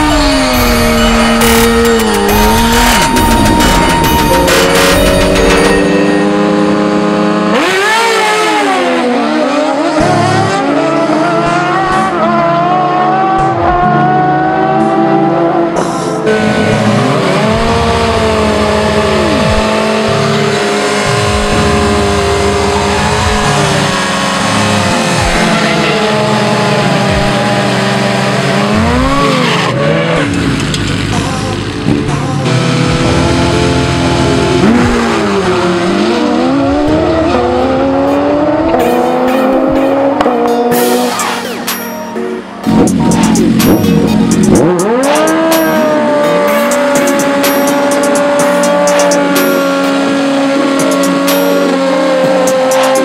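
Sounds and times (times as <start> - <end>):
motorcycle engines revving: 0.0 - 41.9, 42.5 - 53.0.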